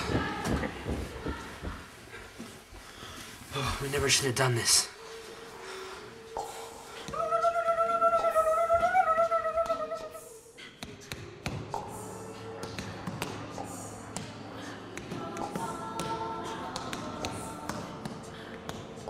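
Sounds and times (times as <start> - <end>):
quiet music with low tones: 0.0 - 19.0.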